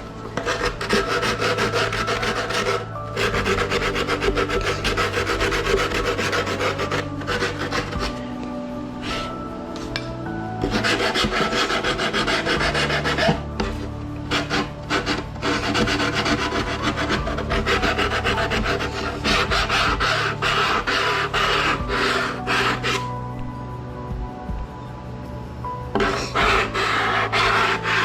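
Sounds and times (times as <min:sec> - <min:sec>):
hand rasp scraping foam: 0:00.0 - 0:08.2, 0:09.0 - 0:09.4, 0:10.6 - 0:23.1, 0:26.0 - 0:28.0.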